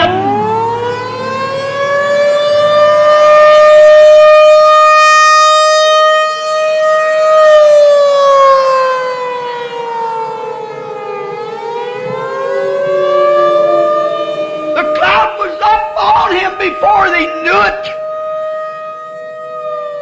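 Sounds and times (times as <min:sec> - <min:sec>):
siren wailing: 0:00.0 - 0:20.0.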